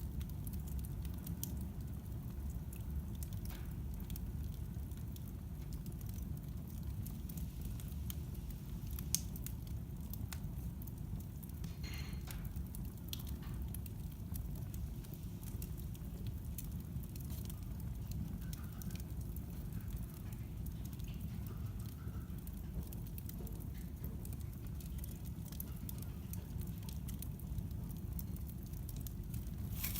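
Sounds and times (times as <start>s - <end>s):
wood fire crackling and popping: 0.0s - 29.9s.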